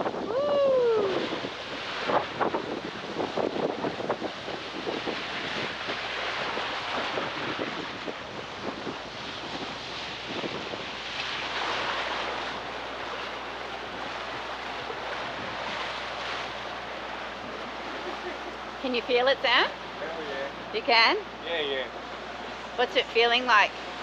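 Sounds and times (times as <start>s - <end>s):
crackling splashes: 0.0s - 24.0s
water rushing against boat hull: 0.0s - 24.0s
wind buffeting microphone: 0.0s - 24.0s.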